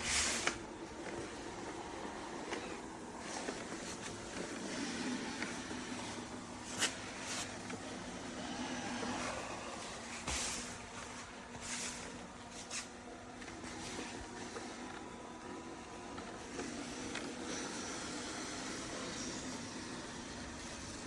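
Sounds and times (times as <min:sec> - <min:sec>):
robot vacuum motor hum: 0:00.0 - 0:21.0.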